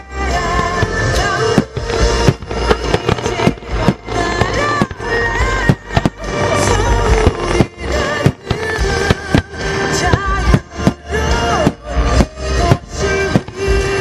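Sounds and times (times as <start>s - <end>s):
fireworks bursting: 0.0s - 14.0s
music with sliding melody: 0.0s - 14.0s.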